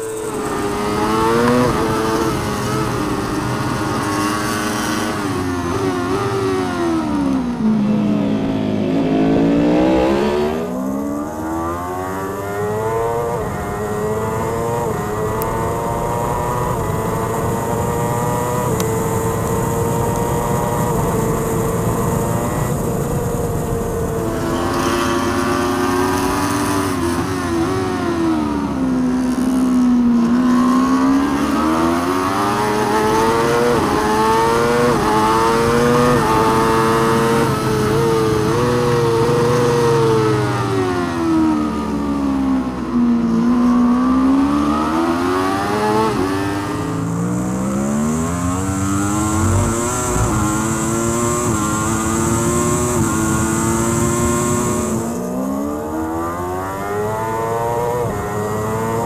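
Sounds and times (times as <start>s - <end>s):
racing motorcycle engine revving: 0.0s - 59.0s.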